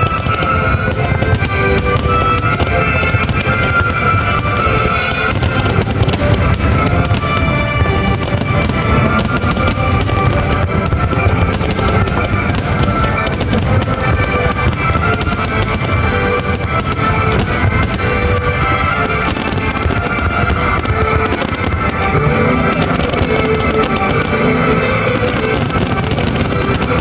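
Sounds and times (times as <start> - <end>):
fireworks booming and crackling: 0.0 - 27.0
music: 0.0 - 27.0.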